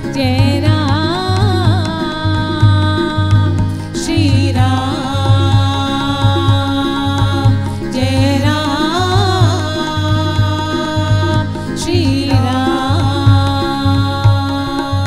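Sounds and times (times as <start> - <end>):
devotional music: 0.0 - 15.0
steady held tones: 0.0 - 15.0
wavering sliding melody: 0.0 - 15.0.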